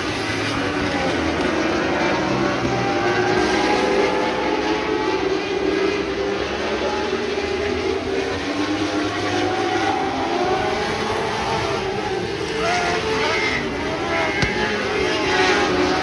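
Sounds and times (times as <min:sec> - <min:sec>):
racing car engines: 0:00.0 - 0:16.0.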